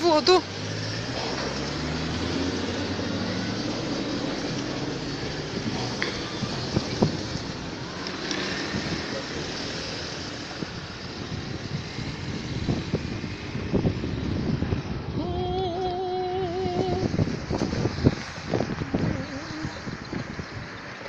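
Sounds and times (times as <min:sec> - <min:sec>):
wind rumbling on microphone: 0:00.1 - 0:21.0.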